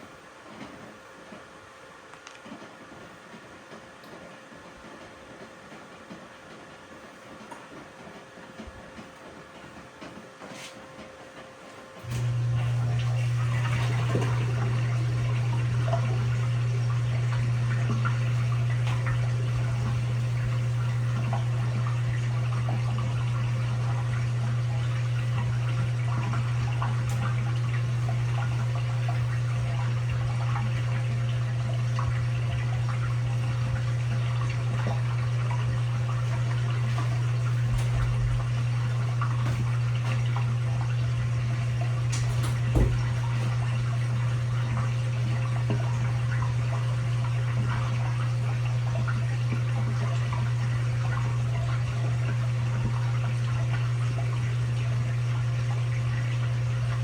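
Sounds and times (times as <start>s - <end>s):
washing machine hum: 0.0s - 57.0s
water running in washing machine: 0.0s - 57.0s.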